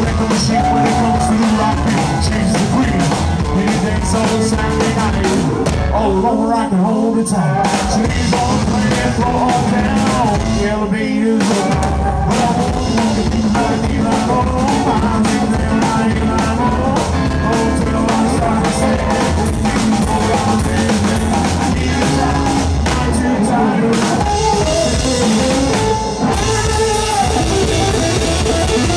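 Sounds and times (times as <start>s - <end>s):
drum kit beat: 0.0s - 6.2s, 7.6s - 28.9s
upright double bass: 0.0s - 6.4s, 7.6s - 11.0s, 11.7s - 28.9s
twangy electric guitar: 0.0s - 28.9s.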